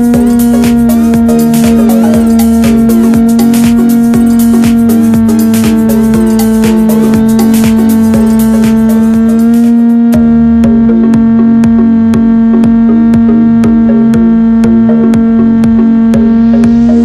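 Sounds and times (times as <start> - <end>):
electronic music with drum machine: 0.0 - 17.0.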